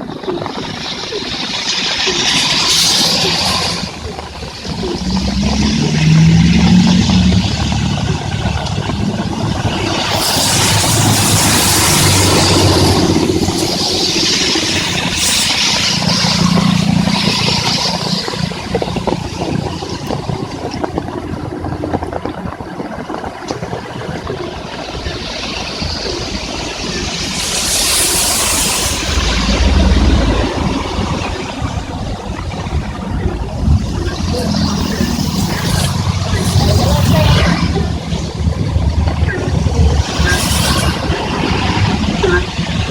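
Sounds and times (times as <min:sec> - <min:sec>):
heavy rain drumming: 0:00.0 - 0:42.9
vehicles passing on wet road: 0:00.0 - 0:42.9.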